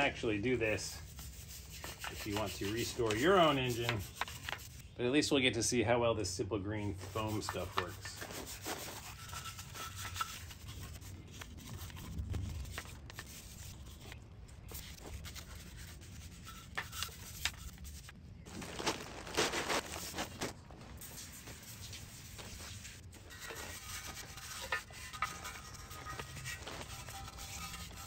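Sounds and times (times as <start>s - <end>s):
bristle brush scrubbing metal: 0.2s - 4.9s, 6.9s - 18.1s, 21.0s - 28.0s.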